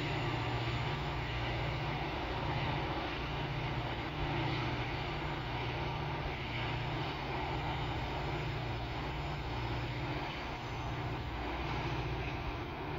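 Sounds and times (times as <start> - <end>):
distant diesel locomotive drone: 0.0 - 12.9.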